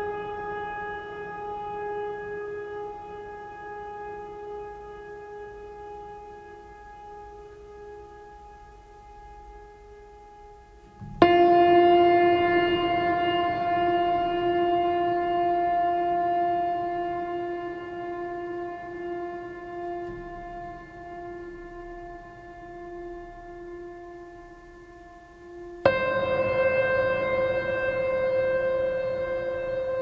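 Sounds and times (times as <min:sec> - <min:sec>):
droning held music notes: 0:00.0 - 0:30.0.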